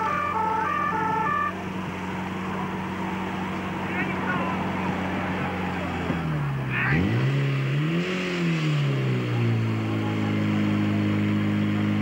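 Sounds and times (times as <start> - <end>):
pump engine revving: 0.0 - 12.0.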